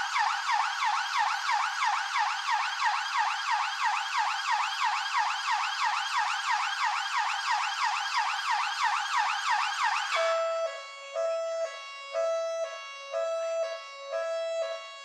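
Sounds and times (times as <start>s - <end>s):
police siren yelp: 0.0s - 15.0s
steady stepped siren tone: 0.0s - 15.0s.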